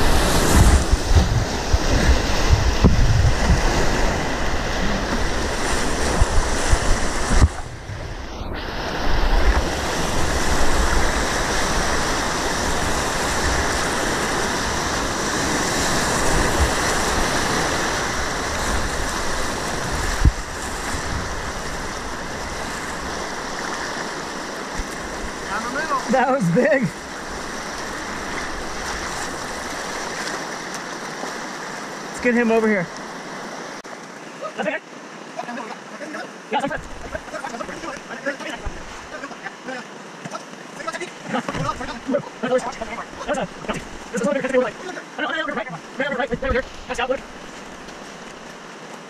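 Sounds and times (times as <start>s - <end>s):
water splashing onto kayak: 0.0s - 49.0s
whitewater rushing: 0.0s - 49.0s.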